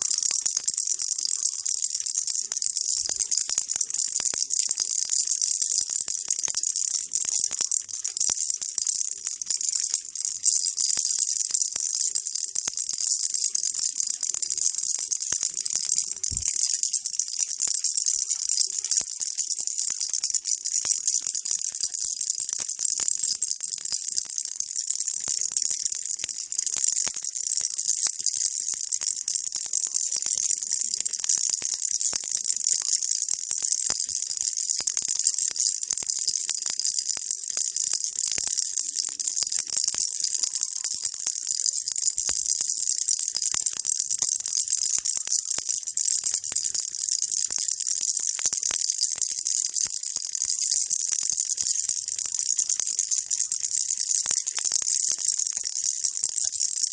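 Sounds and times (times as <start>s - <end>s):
baby rattle shaking: 0.0s - 56.9s.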